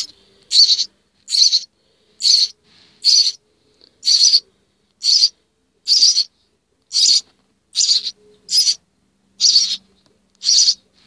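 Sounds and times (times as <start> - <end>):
nestlings begging with hissy calls: 0.0 - 3.4, 4.0 - 6.3, 6.9 - 8.8, 9.4 - 10.9.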